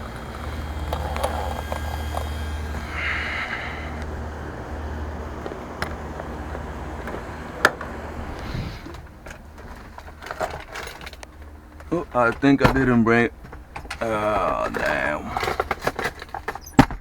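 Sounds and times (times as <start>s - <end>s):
low background rumble: 0.0s - 16.6s.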